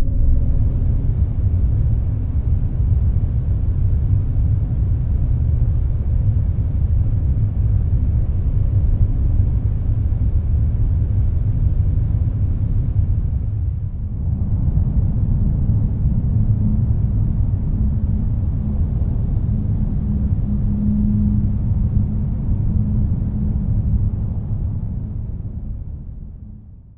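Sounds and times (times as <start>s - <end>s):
low wind rumble: 0.0s - 26.9s.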